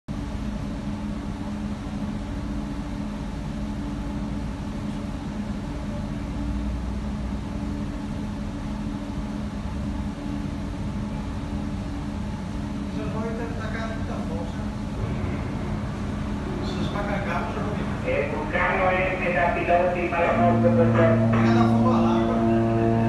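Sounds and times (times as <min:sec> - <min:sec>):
boat engine drone: 0:00.2 - 0:23.0.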